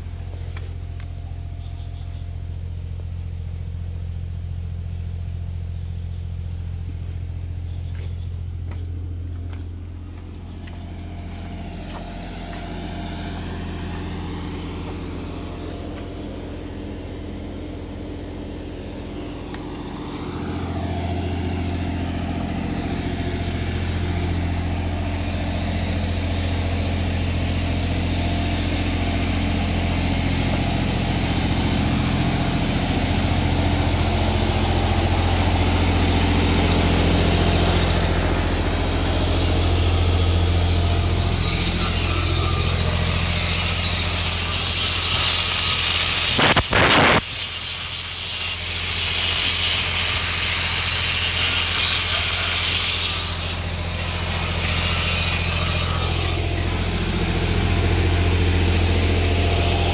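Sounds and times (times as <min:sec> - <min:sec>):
diesel engine idling: 0:00.0 - 0:44.7, 0:52.5 - 0:59.9.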